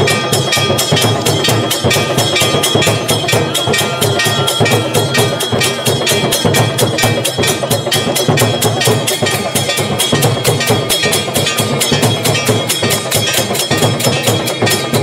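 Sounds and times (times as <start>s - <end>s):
drum beating rapidly: 0.0s - 15.0s
temple bells ringing: 0.0s - 15.0s.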